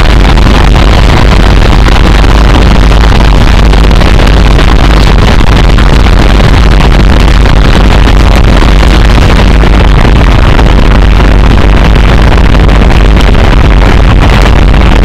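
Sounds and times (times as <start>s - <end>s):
heavily distorted electronic noise music: 0.0s - 15.0s.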